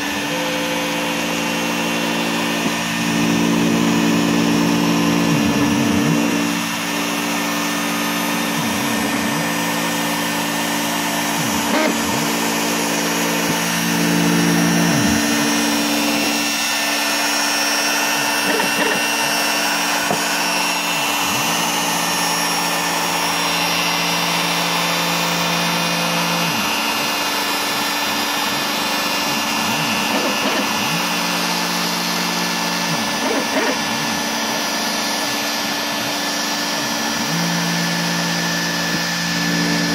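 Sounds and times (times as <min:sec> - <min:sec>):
shop vacuum running: 0:00.0 - 0:39.9
stepper motors whining: 0:00.0 - 0:39.9
trim router running: 0:00.0 - 0:39.9.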